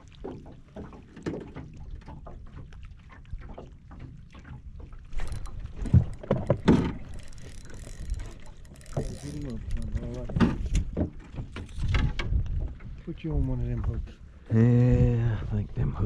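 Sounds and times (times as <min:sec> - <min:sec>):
light taps and knocks in boat: 0:00.0 - 0:14.3.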